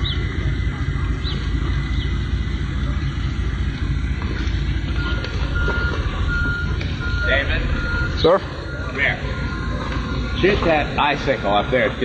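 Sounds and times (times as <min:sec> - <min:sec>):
low rumble: 0:00.0 - 0:12.0
vehicle reversing alarm beeping: 0:00.0 - 0:12.0.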